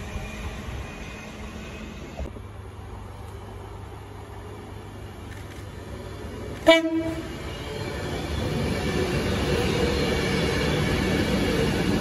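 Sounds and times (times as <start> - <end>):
electric train passing: 0.0 - 12.0
faint train whine: 0.0 - 12.0.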